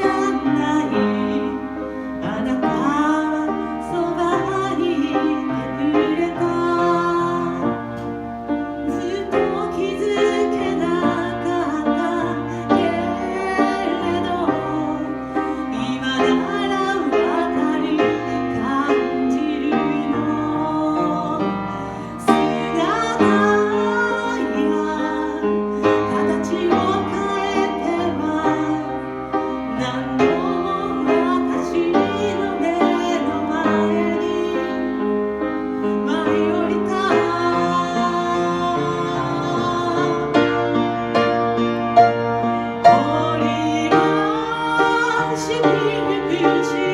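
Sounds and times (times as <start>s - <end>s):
woman singing: 0.0s - 8.1s, 8.8s - 40.5s, 42.8s - 46.9s
instrumental accompaniment: 0.0s - 46.9s.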